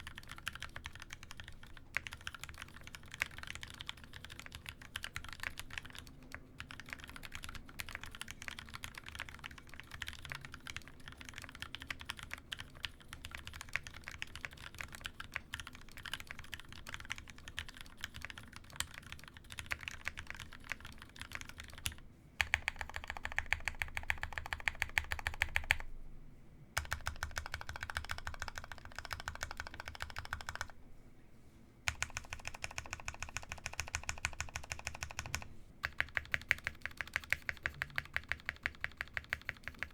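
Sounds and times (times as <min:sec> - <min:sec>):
mechanical keyboard typing: 0:00.0 - 0:25.9, 0:26.8 - 0:30.8, 0:31.9 - 0:39.9.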